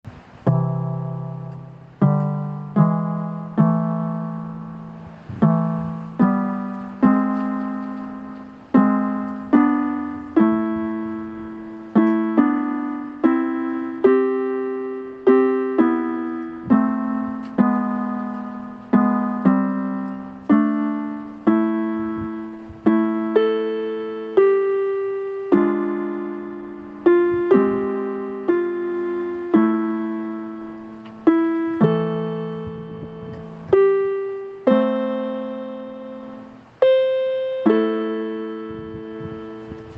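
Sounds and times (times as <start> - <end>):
slow piano melody: 0.0 - 39.9.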